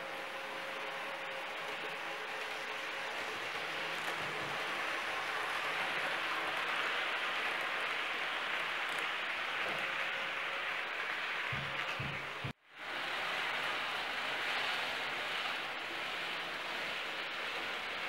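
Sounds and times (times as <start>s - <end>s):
model train wheels rolling on rails: 0.0s - 18.0s.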